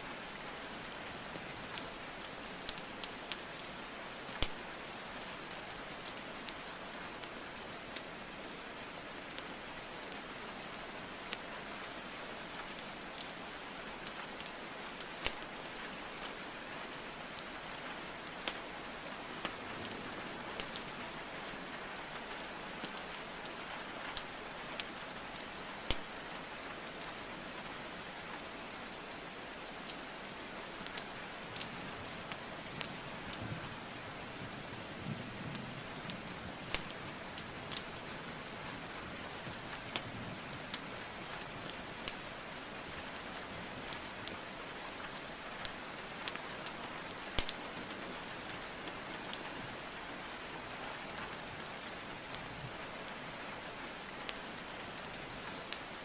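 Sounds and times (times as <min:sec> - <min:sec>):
steady rain hiss: 0:00.0 - 0:56.0
wood fire crackling: 0:00.2 - 0:50.1, 0:50.7 - 0:56.0.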